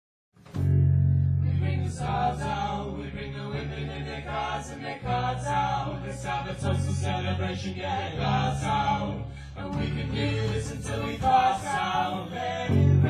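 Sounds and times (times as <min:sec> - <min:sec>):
deep bass notes: 0:00.6 - 0:13.0
several voices singing together: 0:01.4 - 0:13.0.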